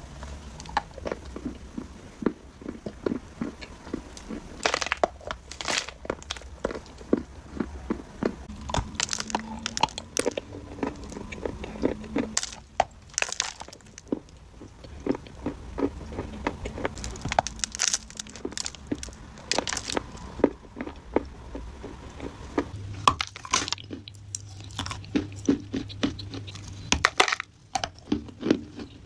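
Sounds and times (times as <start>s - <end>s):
clay being chewed: 0.2s - 29.0s.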